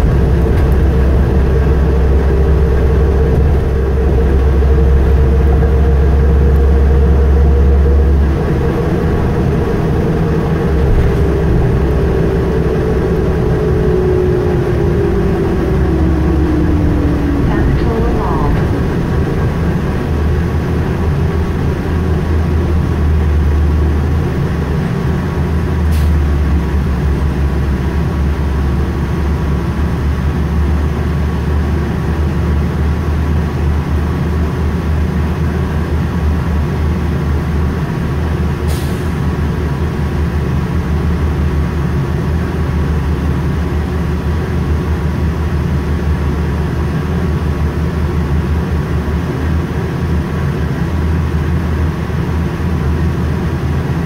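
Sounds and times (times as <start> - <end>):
bus engine humming: 0.0 - 54.0.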